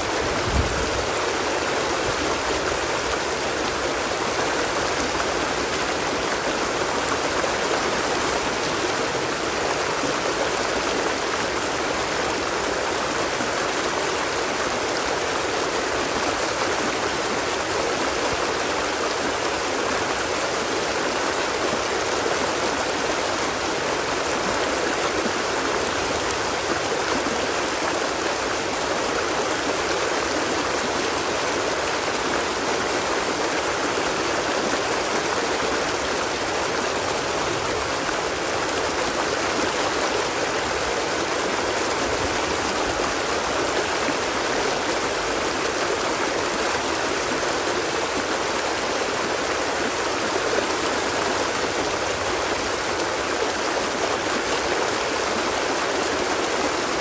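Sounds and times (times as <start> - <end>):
water flowing steadily: 0.0 - 57.0.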